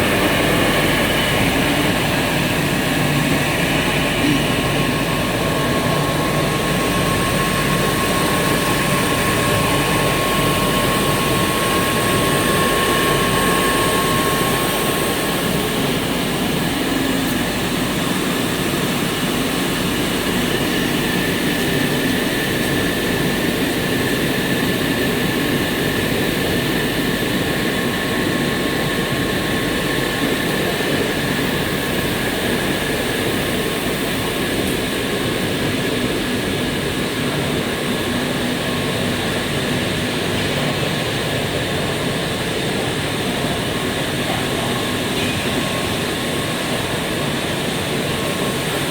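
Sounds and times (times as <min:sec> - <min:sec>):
constant machine whines: 0:00.0 - 0:48.9
extrusion line mechanical noise: 0:00.0 - 0:48.9.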